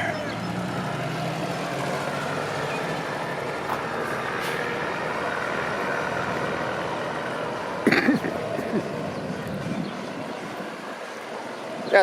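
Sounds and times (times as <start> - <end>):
heavy vehicle engines running: 0.0 - 12.0
road traffic noise: 0.0 - 12.0.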